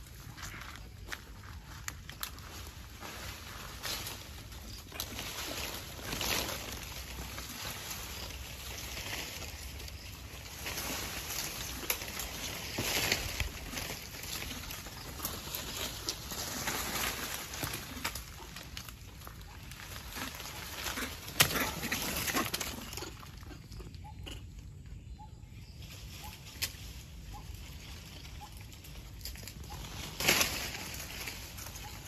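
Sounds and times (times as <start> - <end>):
leaves and twigs rustling: 0.0 - 24.8, 25.6 - 32.0.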